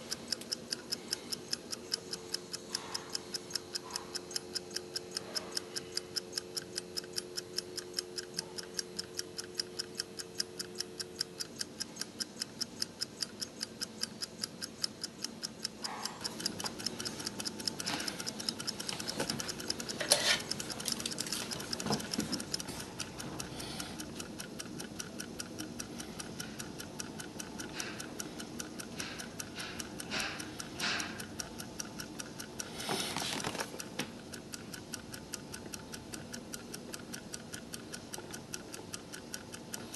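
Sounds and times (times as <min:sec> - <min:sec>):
irregular clicks and light knocks: 0:00.0 - 0:39.9
stopwatch ticking fast: 0:00.0 - 0:39.9.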